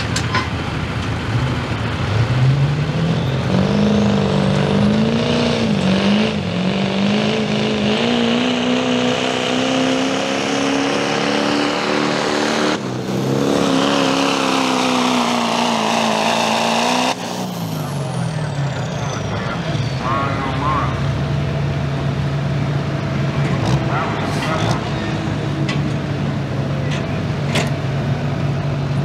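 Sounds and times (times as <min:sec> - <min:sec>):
diesel pickup engine revving: 0:00.0 - 0:29.0.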